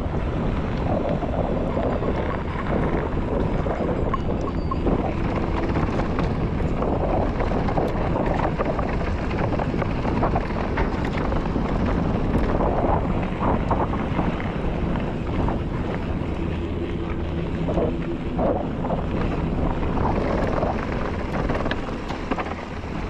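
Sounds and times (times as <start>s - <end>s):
tyres rolling on dirt trail: 0.0s - 23.0s
wind rushing over microphone: 0.0s - 23.0s
small clicks and rattles: 0.7s - 23.0s.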